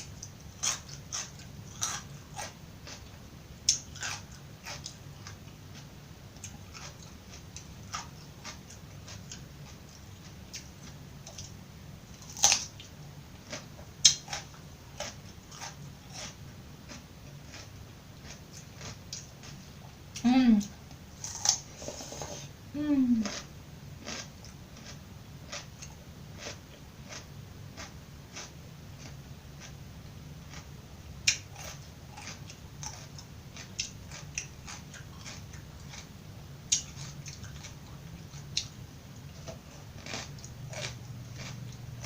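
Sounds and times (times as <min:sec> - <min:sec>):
chewing crisp raw vegetables: 0:00.0 - 0:22.5, 0:23.1 - 0:29.8, 0:30.4 - 0:42.0.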